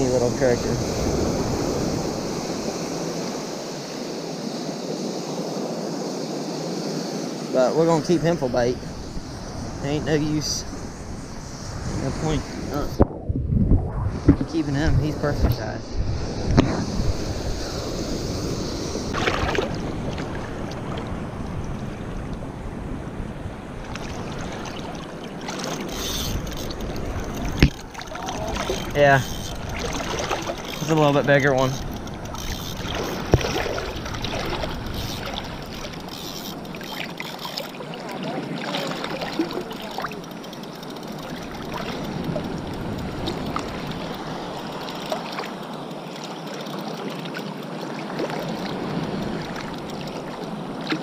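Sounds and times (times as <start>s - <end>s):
wind buffeting microphone: 0.0s - 45.9s
ocean surf washing on beach: 0.0s - 51.0s.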